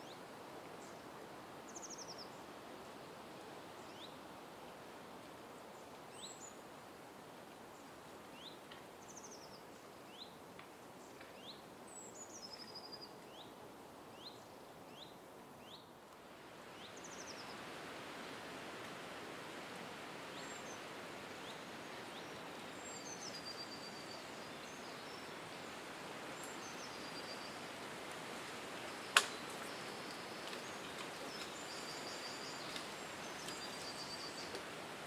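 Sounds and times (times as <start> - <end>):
outdoor background hiss: 0.0 - 35.0.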